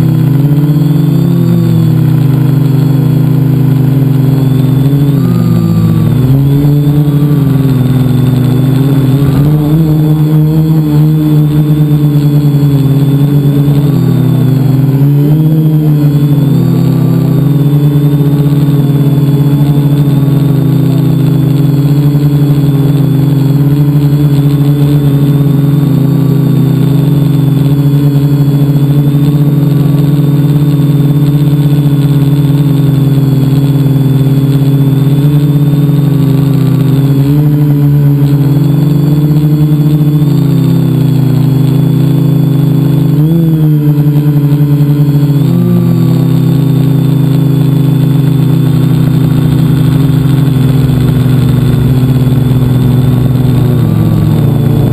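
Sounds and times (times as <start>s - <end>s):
drone propellers whining: 0.0s - 54.9s.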